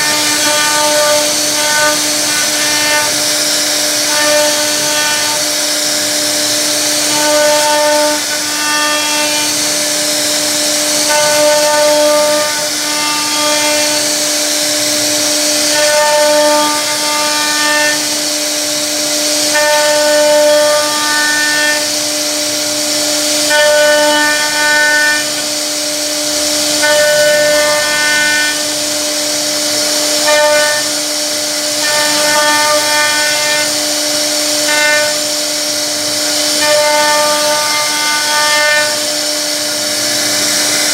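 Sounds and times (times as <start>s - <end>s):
router bit cutting wood: 0.0s - 40.9s
router spindle whine: 0.0s - 40.9s.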